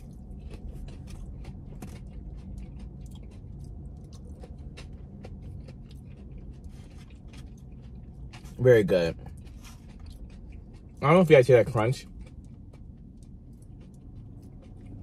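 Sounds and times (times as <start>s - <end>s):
crisp chewing crunches: 0.0s - 15.0s
steady low hum: 0.0s - 15.0s.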